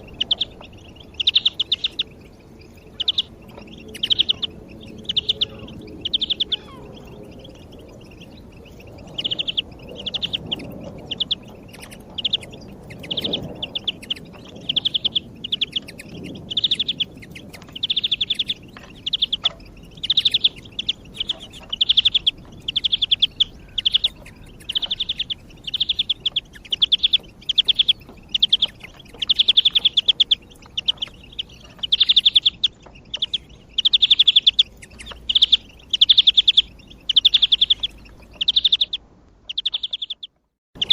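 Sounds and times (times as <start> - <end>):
finch singing rapid trills: 0.0 - 40.9.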